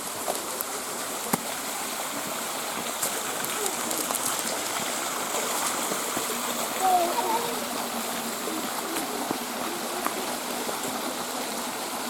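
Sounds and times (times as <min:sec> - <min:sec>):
rocky river rushing: 0:00.0 - 0:12.0.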